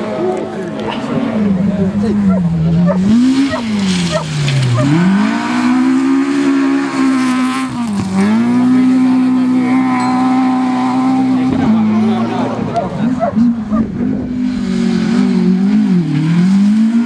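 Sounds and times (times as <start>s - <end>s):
car engine revving hard: 1.2s - 17.0s.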